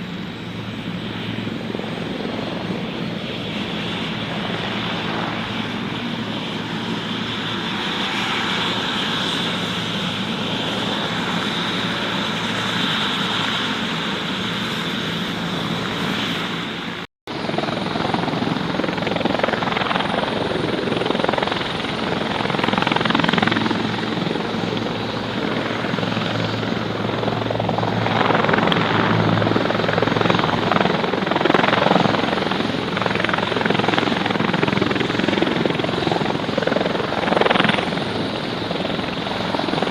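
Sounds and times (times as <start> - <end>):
light aircraft engine drone: 0.0 - 39.9
propeller noise: 0.0 - 39.9.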